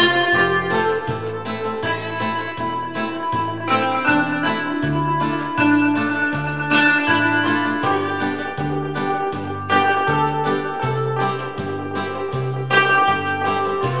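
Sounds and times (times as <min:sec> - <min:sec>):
keyboard chords: 0:00.0 - 0:14.0
repeating bass line: 0:00.0 - 0:14.0.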